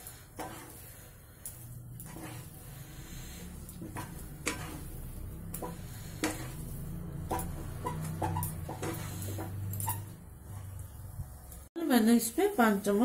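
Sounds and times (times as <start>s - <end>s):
wooden spatula scraping a pan: 0.0s - 13.0s.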